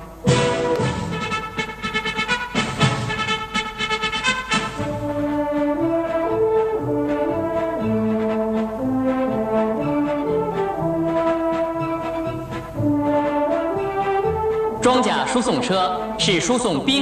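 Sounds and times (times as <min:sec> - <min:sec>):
brass band music: 0:00.0 - 0:17.0.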